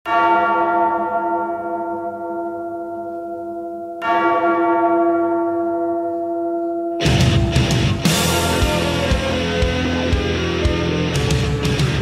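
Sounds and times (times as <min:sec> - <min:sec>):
large bell tolling: 0:00.1 - 0:12.0.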